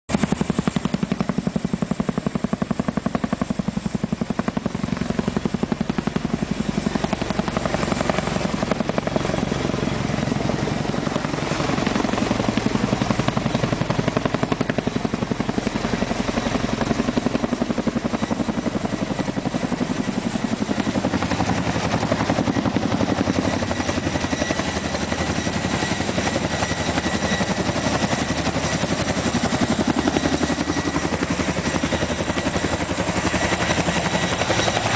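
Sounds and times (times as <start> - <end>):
helicopter rotor chop: 0.1 - 34.9
turbine whine: 0.1 - 34.9.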